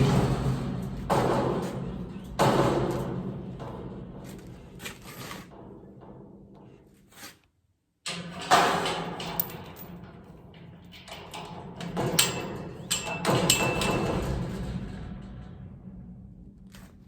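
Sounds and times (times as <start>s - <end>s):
metal clanking and scraping: 0.0s - 7.4s, 8.1s - 17.0s.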